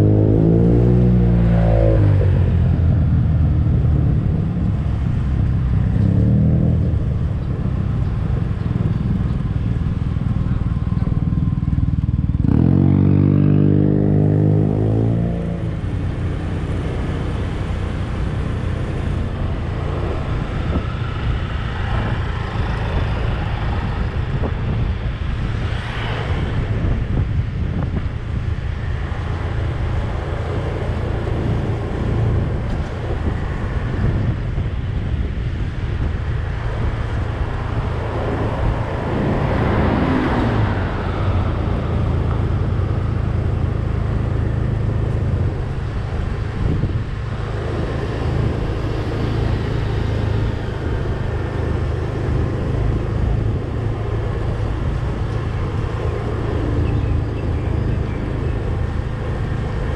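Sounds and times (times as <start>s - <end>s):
passing traffic: 0.0s - 59.9s
road noise: 0.0s - 59.9s
vehicle engine rumble: 0.0s - 59.9s
wind buffeting microphone: 0.0s - 59.9s.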